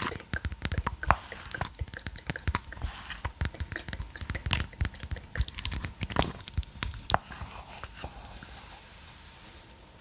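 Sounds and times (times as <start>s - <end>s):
massage roller ball clicking: 0.0s - 8.2s.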